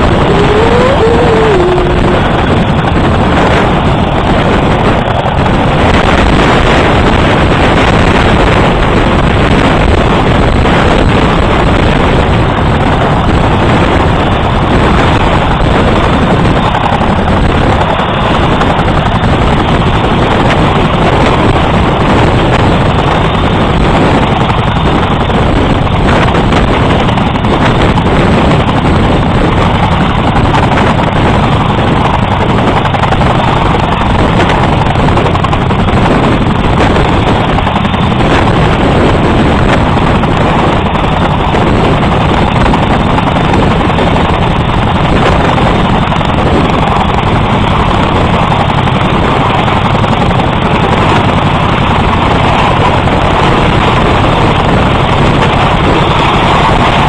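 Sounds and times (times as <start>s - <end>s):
helicopter hovering overhead: 0.0s - 57.0s.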